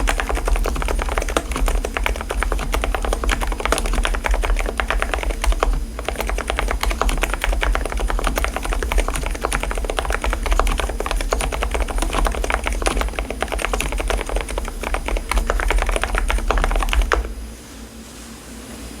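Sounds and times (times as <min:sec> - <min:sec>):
typing on mechanical keyboard: 0:00.0 - 0:17.4.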